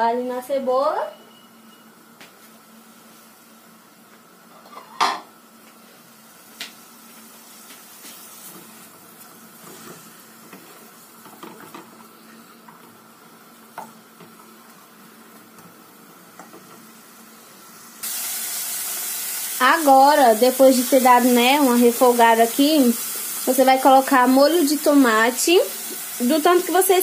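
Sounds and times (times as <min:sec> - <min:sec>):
garlic and onion sizzling in oil: 0:02.6 - 0:27.0.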